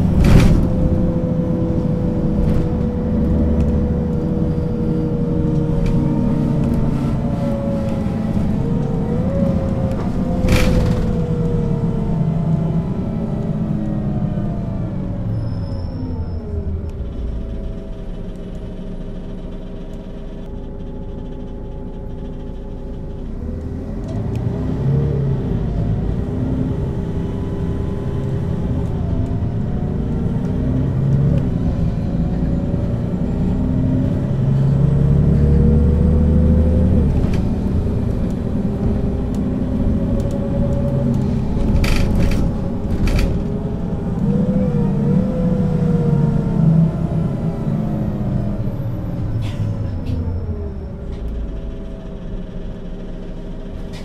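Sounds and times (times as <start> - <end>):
bus diesel engine and gearbox whine: 0.0 - 54.0.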